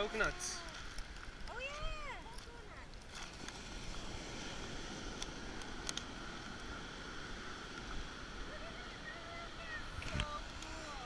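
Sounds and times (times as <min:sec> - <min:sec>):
waves breaking on a beach: 0:00.0 - 0:11.0
wind buffeting the microphone: 0:00.0 - 0:11.0.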